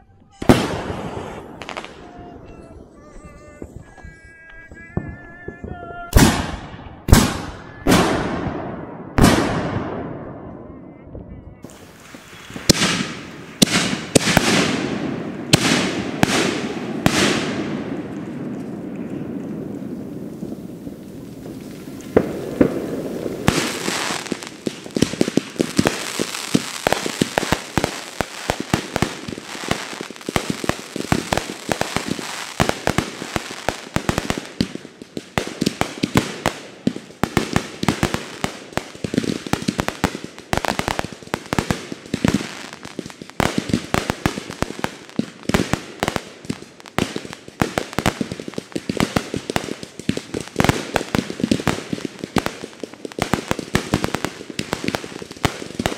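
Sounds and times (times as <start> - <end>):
fireworks bangs and crackling: 0.0 - 55.9.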